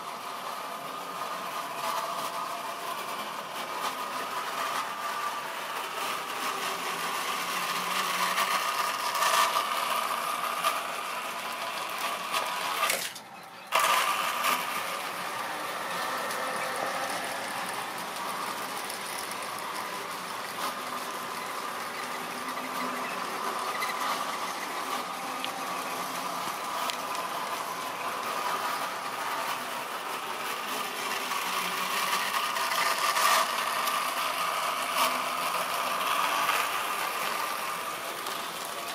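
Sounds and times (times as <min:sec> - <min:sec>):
model train motor whirring: 0:00.0 - 0:38.9
wagon wheels rattling on rails: 0:00.0 - 0:38.9.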